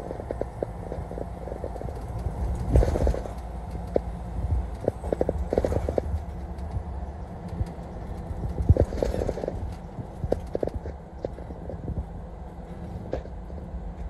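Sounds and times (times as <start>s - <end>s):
car road noise rumble: 0.0s - 14.0s.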